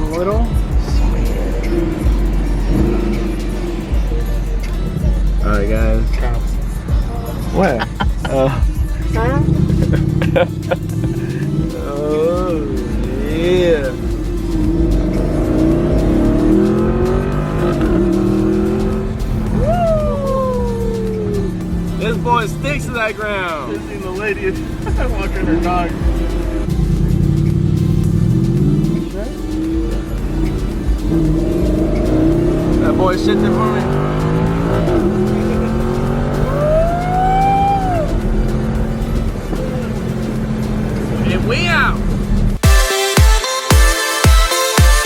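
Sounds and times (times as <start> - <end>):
car engine accelerating: 0.0 - 42.6.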